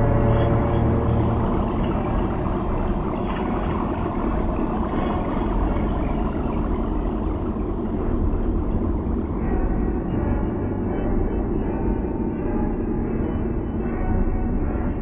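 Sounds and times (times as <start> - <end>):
dense dark rumble: 0.0 - 15.0.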